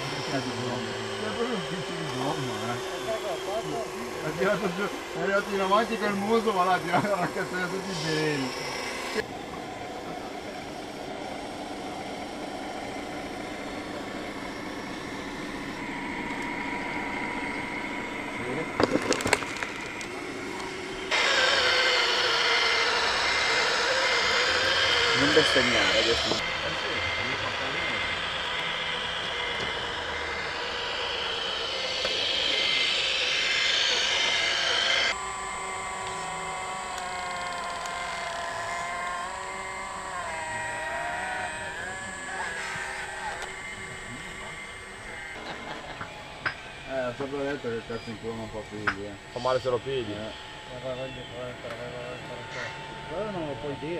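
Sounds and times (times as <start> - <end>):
steady high whine: 0.0 - 53.9
toy truck mechanical drone: 0.0 - 53.9.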